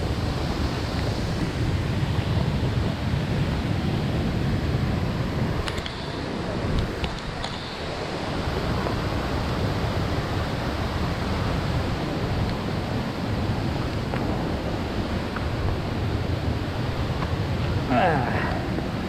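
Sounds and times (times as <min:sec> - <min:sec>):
waterfall and river rushing: 0:00.0 - 0:19.0
wind buffeting microphone: 0:00.0 - 0:19.0.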